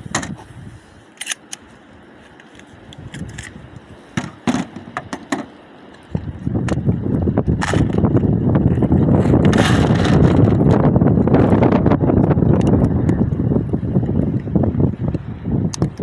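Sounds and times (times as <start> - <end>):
wind rumble on microphone: 0.0 - 1.1, 2.7 - 5.4, 6.0 - 16.0.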